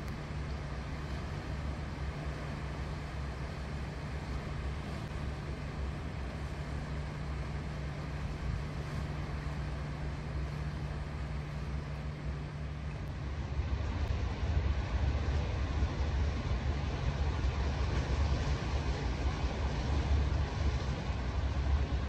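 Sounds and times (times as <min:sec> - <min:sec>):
low sea rumble: 0:00.0 - 0:22.0.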